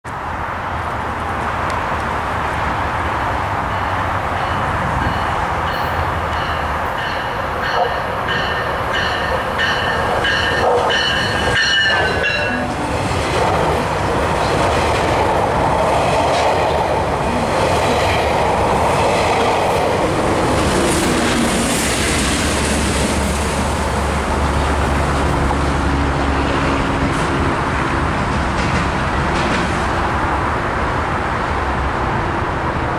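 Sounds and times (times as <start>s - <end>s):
diesel locomotive engine hum: 0.1s - 32.9s
train cars rushing and clattering: 0.1s - 32.9s.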